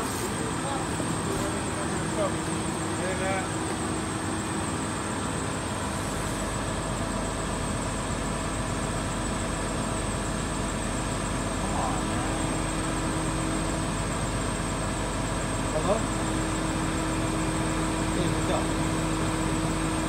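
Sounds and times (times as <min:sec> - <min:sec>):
crane engine drone: 0:00.0 - 0:20.0.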